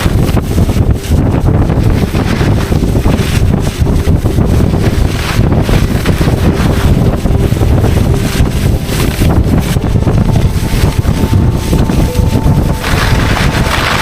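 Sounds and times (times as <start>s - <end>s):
heavy low rumble: 0.0s - 14.0s
skis hissing through snow: 0.0s - 14.0s
wind buffeting microphone: 0.0s - 14.0s.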